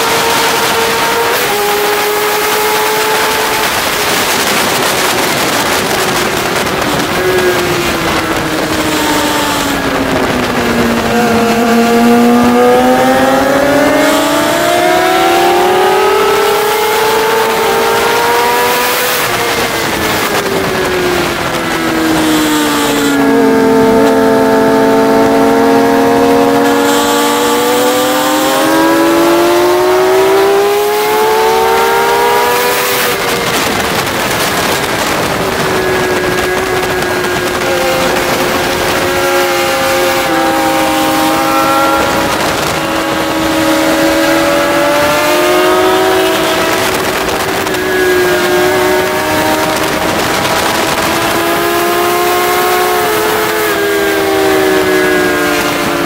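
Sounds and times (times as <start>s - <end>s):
motorcycle engine at speed: 0.0s - 56.0s
wind rush: 0.0s - 56.0s.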